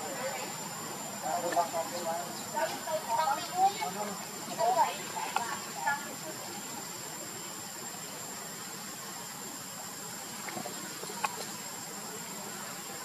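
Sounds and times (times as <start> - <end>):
outdoor background hiss: 0.0 - 13.0
thin high constant tone: 0.0 - 13.0.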